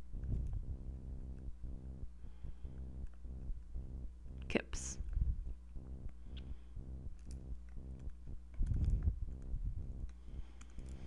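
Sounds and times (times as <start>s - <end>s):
pulsing electrical hum: 0.0s - 11.0s.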